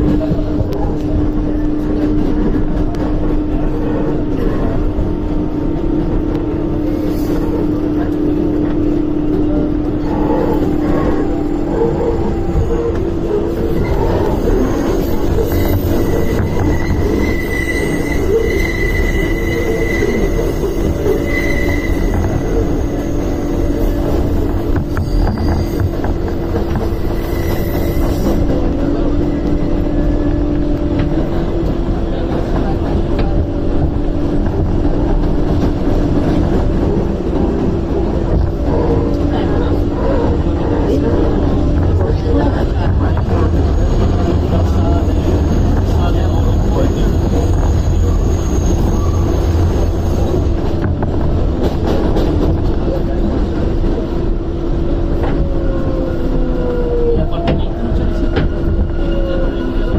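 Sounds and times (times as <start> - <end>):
train hum: 0.0 - 59.9
train wheels rumbling on rails: 0.0 - 59.9.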